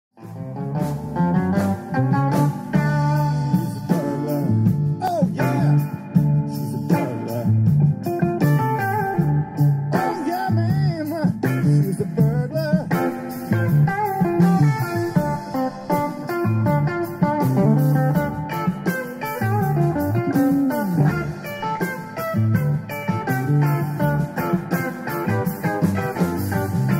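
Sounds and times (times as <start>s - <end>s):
drums: 0.1s - 26.9s
bass guitar: 0.2s - 26.9s
electric guitar bent notes: 0.2s - 26.9s.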